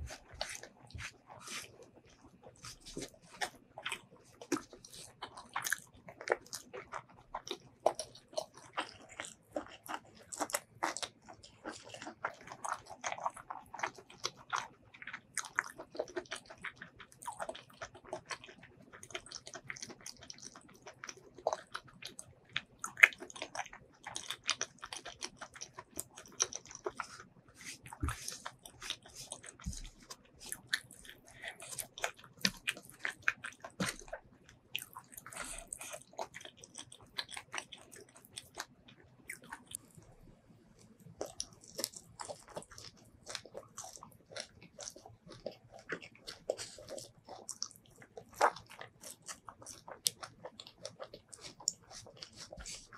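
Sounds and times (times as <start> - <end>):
close chewing and mouth smacks: 0.0 - 52.9.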